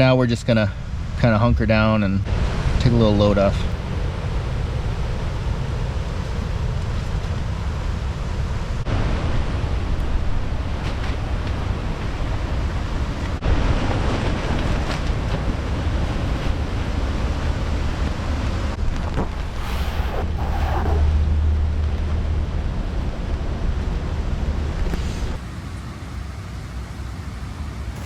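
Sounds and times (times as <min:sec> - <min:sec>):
wind rumble on microphone: 0:00.0 - 0:25.4
strong wind: 0:00.0 - 0:28.0
waves: 0:00.0 - 0:28.0.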